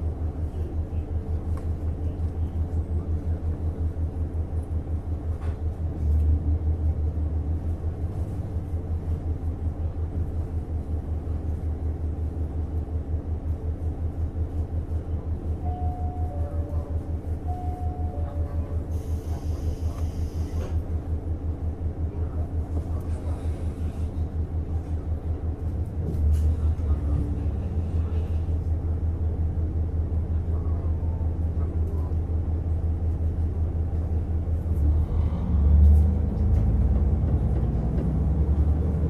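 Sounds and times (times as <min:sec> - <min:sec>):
diesel railcar rumble: 0:00.0 - 0:39.0.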